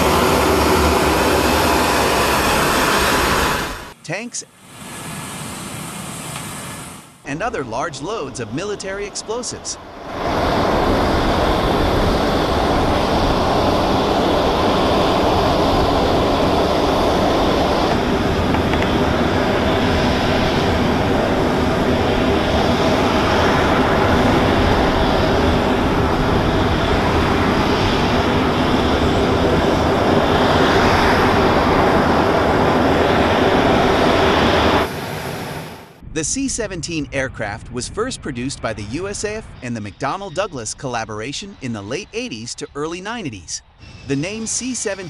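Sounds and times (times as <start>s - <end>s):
jet engine roar and whine: 0.0s - 45.0s.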